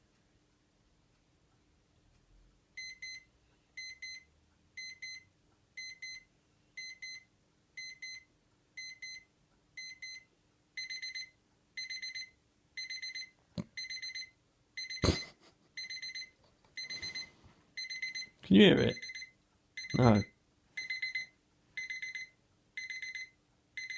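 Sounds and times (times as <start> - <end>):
alarm clock beeping: 2.8 - 23.9.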